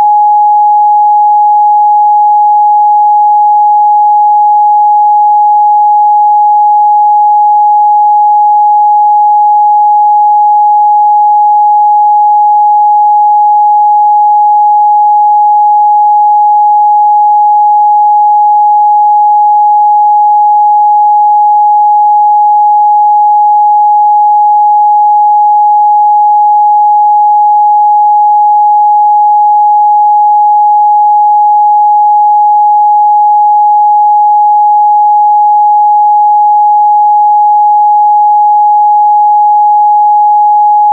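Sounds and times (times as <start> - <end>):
steady sine-wave test tone: 0.0 - 40.9.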